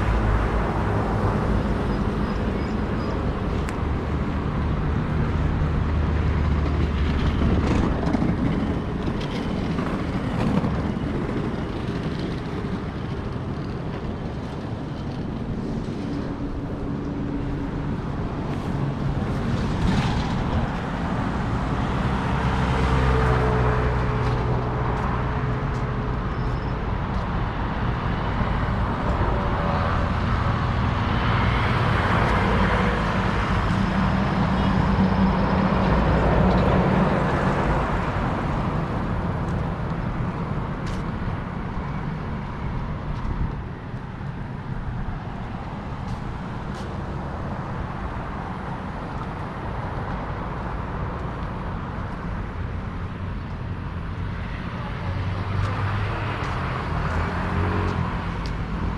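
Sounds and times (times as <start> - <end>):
traffic hum: 0.0 - 58.9
vehicles passing close by: 0.0 - 58.9.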